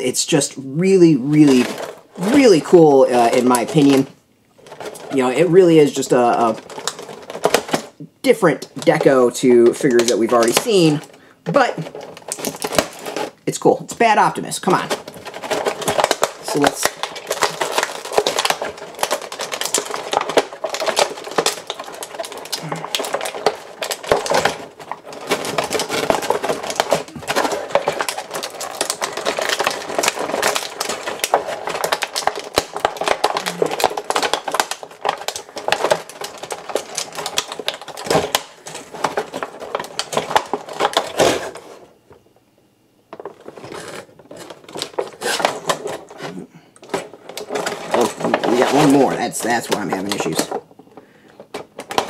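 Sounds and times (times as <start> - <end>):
packaging rustling and crinkling: 0.0 - 42.2, 43.1 - 52.0.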